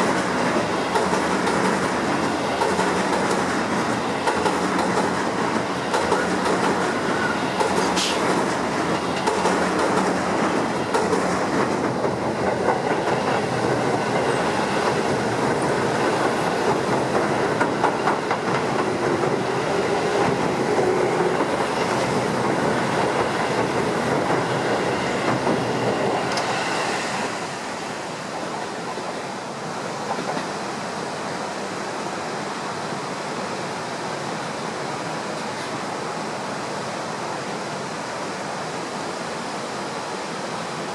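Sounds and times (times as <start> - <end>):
electric train passing: 0.0 - 35.4
river rushing: 0.0 - 40.9.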